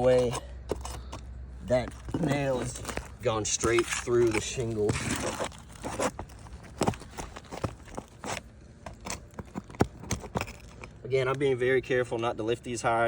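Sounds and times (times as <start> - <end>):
hand tool scraping under shingles: 0.0 - 11.3.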